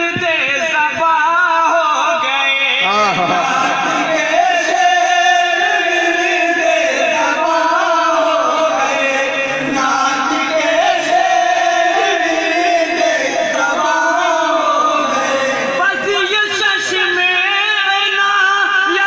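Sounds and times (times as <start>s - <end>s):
men singing a hymn in unison: 1.0s - 19.0s.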